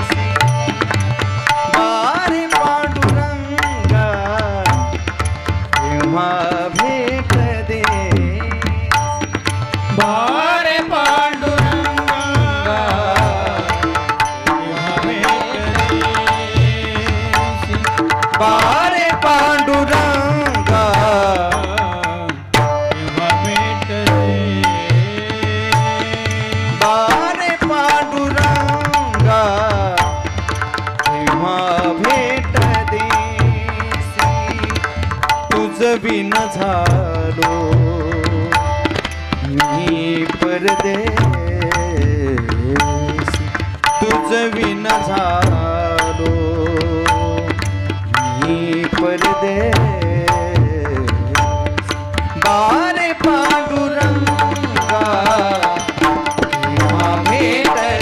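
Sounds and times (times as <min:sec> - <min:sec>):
hand drums playing: 0:00.0 - 0:58.0.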